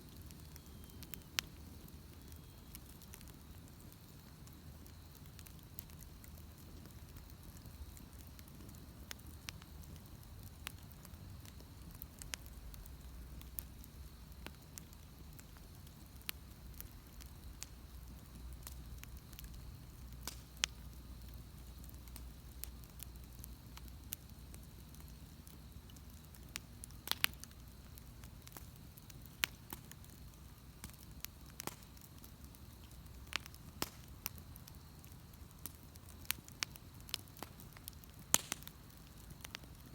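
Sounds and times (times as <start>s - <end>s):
bonfire crackling and popping: 0.0s - 39.9s
low rumble of burning fire: 0.0s - 39.9s.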